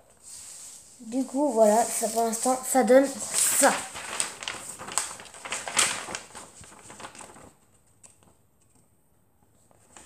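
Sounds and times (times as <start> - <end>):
paper rustling and crackling: 0.1 - 8.7.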